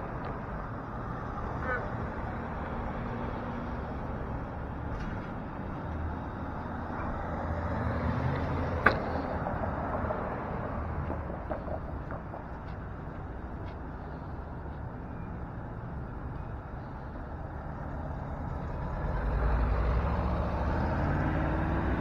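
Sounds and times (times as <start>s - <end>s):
vehicles driving past: 0.0s - 22.0s.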